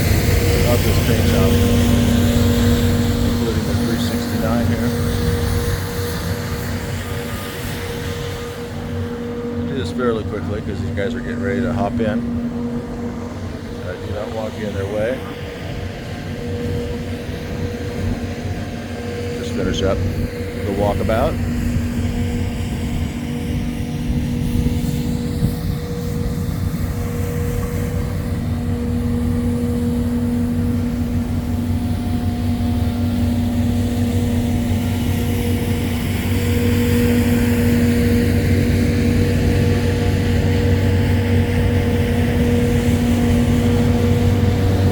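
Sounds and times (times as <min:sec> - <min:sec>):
helicopter turbine hum: 0:00.0 - 0:44.9.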